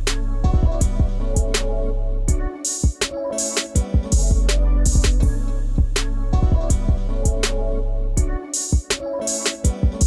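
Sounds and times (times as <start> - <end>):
music with drum beat and bass: 0.0 - 10.0.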